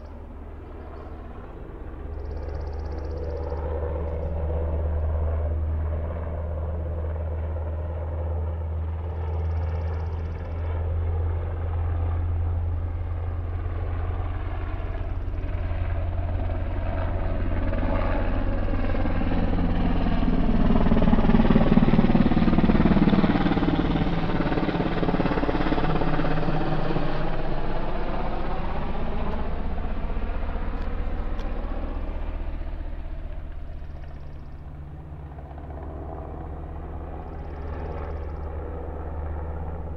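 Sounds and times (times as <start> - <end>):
helicopter flying overhead: 0.0 - 39.9.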